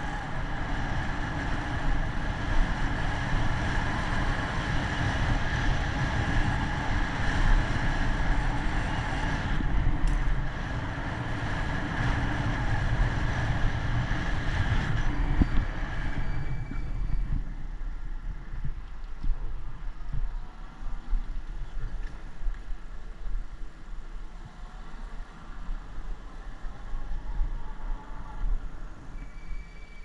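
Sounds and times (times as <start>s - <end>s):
bicycle road noise: 0.0s - 30.0s
wind rumble: 0.0s - 30.0s.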